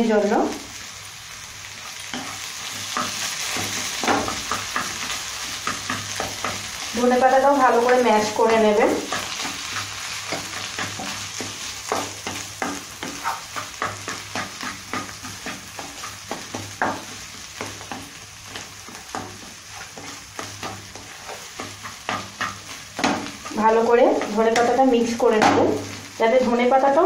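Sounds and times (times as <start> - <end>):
food sizzling: 0.0 - 27.0
spatula scraping a pan: 1.8 - 26.6.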